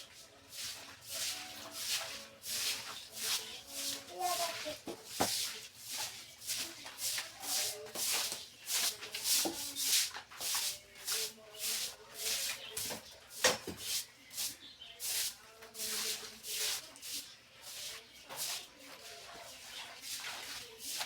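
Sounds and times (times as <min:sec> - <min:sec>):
scrubbing on refrigerator surface: 0:00.0 - 0:21.0.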